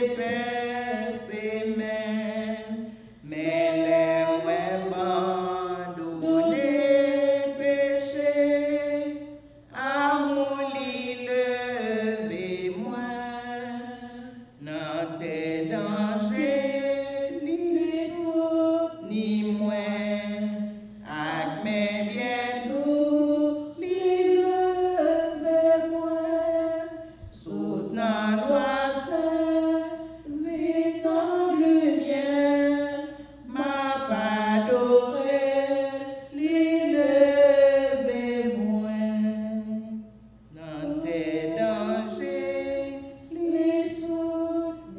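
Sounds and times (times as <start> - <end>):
woman singing unaccompanied: 0.0 - 44.9.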